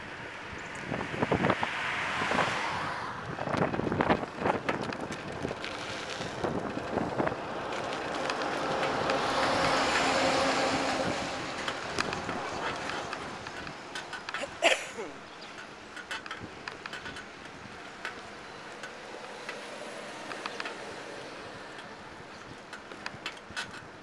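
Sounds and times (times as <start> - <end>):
bicycle rattling over pavement: 0.0 - 24.0
road noise: 0.0 - 24.0
car passing: 0.1 - 23.0.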